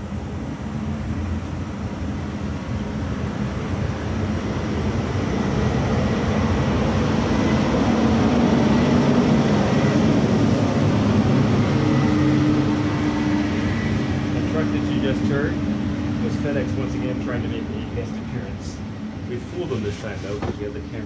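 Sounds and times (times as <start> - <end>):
truck engine running: 2.0 - 21.0.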